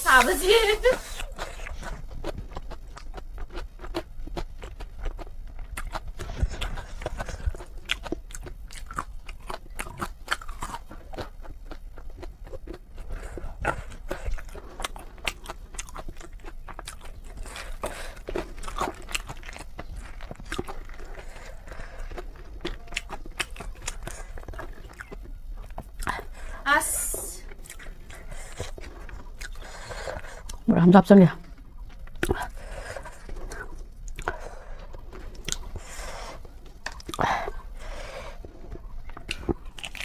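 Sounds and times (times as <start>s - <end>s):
person chewing crunchy food: 0.1s - 30.7s, 31.4s - 40.0s.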